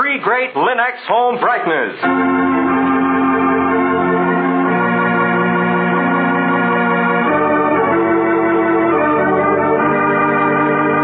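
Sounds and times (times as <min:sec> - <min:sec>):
organ chords: 0:00.0 - 0:11.0.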